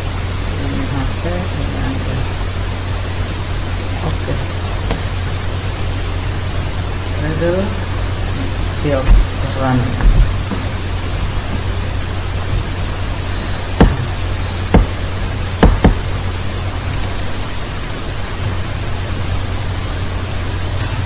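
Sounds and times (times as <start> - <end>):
microphone hiss and hum: 0.0 - 21.0.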